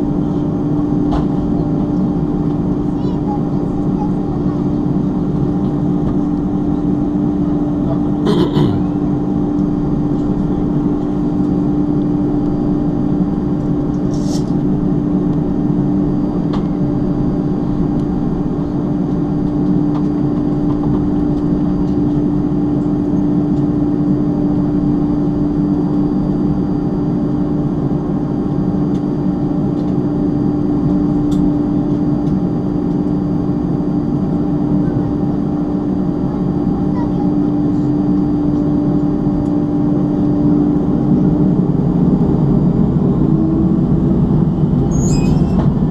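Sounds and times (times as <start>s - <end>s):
aircraft cabin droning hum: 0.0s - 45.9s.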